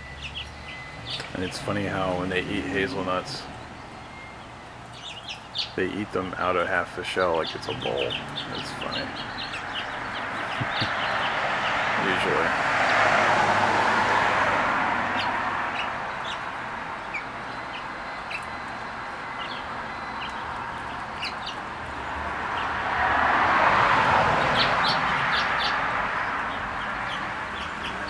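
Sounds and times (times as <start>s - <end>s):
small birds chirping: 0.0s - 13.2s, 15.0s - 23.0s, 24.2s - 28.0s
vehicle passing: 0.0s - 28.0s.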